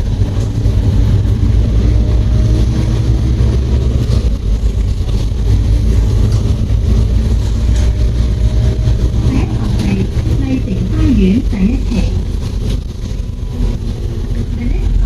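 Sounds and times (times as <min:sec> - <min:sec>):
bus engine rumble from inside: 0:00.0 - 0:15.0.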